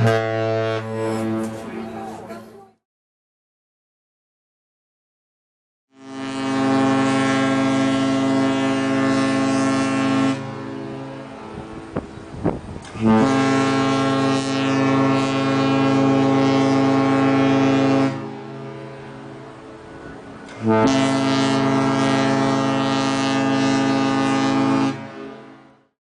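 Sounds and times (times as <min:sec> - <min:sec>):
ship horn blasts: 0:00.0 - 0:02.6, 0:05.9 - 0:25.9.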